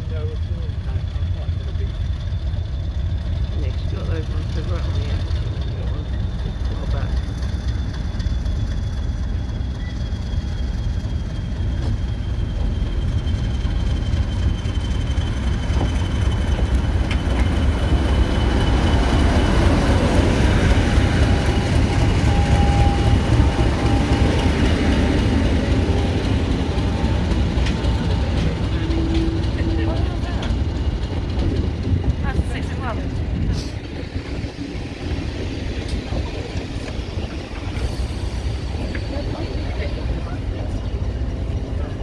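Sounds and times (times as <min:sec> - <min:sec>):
diesel train rumbling: 0:00.0 - 0:42.0.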